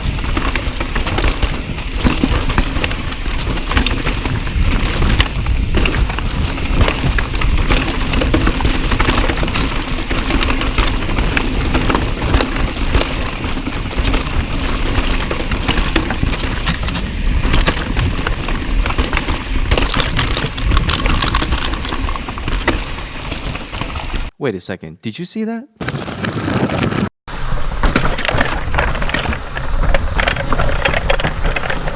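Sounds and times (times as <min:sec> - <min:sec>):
bike clattering over rough ground: 0:00.0 - 0:24.3, 0:25.8 - 0:27.1, 0:27.7 - 0:31.9
bike tyre noise: 0:00.0 - 0:24.3, 0:25.8 - 0:31.9.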